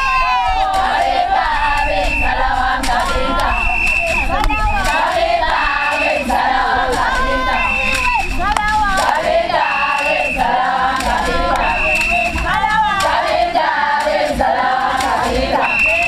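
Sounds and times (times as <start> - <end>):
women singing a dance song: 0.0 - 16.0.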